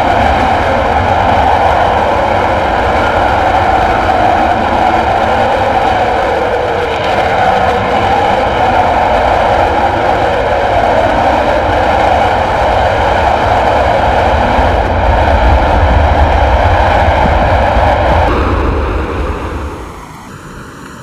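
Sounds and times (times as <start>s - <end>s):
jet engines running loud: 0.0s - 21.0s.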